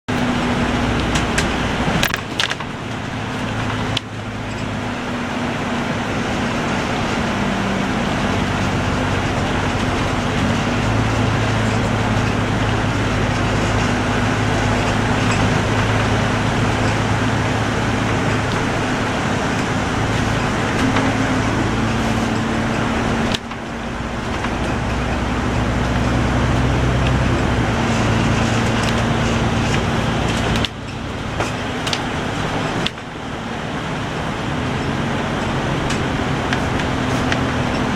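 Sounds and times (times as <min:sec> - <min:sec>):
low engine hum: 0:00.0 - 0:37.9
road noise: 0:00.0 - 0:37.9.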